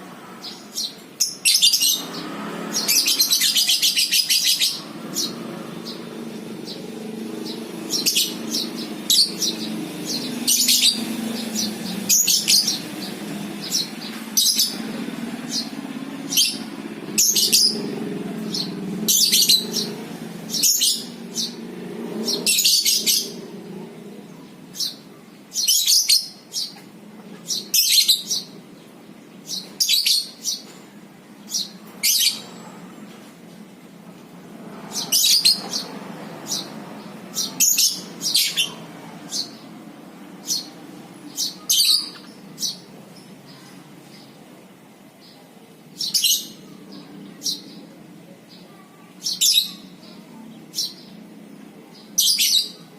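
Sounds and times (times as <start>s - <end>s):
lovebirds chirping: 0.0s - 52.9s.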